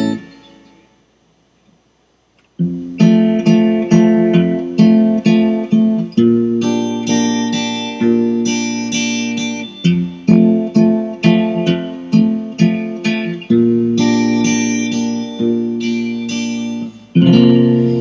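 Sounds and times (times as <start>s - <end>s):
acoustic guitar strumming: 0.0s - 1.1s, 2.6s - 18.0s.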